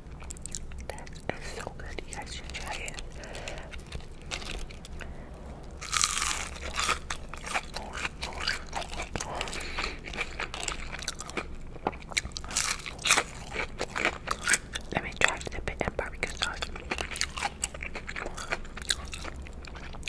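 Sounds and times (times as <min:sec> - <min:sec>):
crunchy chewing: 0:00.1 - 0:20.0.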